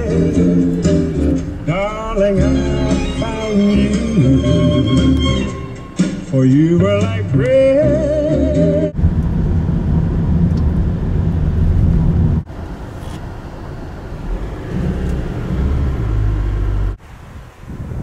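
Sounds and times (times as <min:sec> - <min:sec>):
car engine and tyre rumble: 0:00.0 - 0:07.6, 0:08.9 - 0:18.0.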